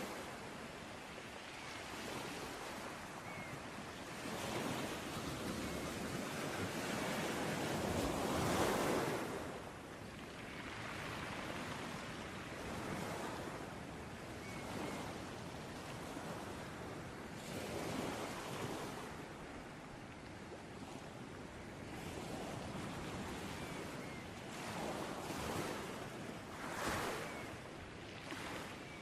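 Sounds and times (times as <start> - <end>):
ocean waves washing onto a beach: 0.0 - 29.0.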